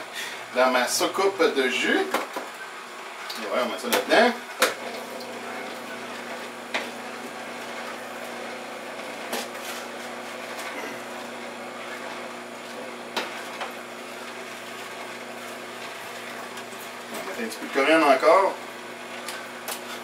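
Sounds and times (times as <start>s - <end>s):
juicer humming: 3.0s - 20.0s.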